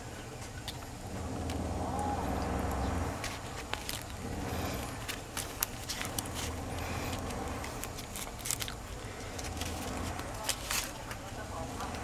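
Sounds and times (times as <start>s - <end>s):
low steady hum: 0.0s - 12.0s
leaves crackling and rustling: 1.4s - 12.0s.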